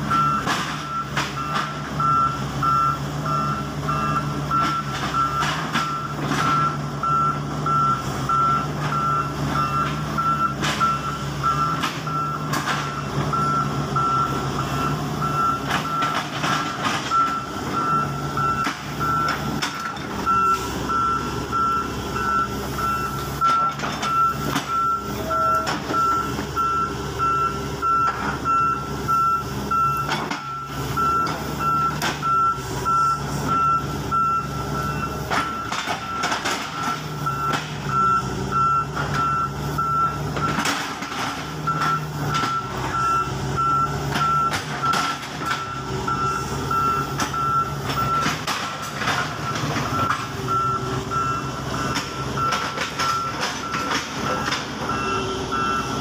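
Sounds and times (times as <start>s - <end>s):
excavator diesel engine running: 0.0s - 56.0s
warning alarm beeps: 0.1s - 40.6s, 41.6s - 48.5s, 49.1s - 56.0s.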